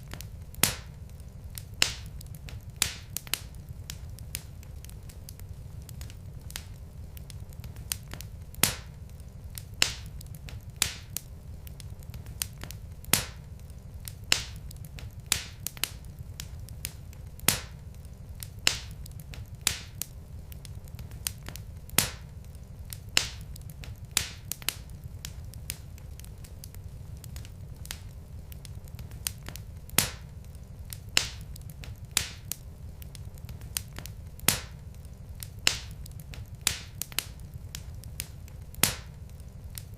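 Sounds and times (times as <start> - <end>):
logs popping and snapping: 0.0 - 39.9
low rumble of flames: 0.0 - 39.9.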